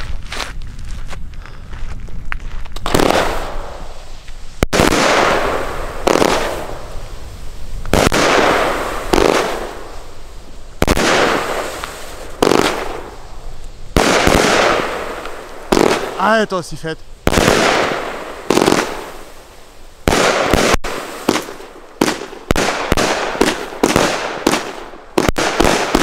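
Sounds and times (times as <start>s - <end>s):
firework bangs: 2.8s - 26.0s.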